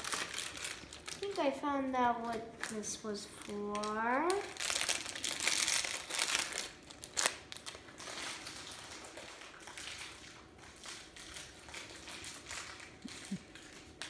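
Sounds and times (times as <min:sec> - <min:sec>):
plastic pieces rustling: 0:00.0 - 0:01.4, 0:02.2 - 0:14.0.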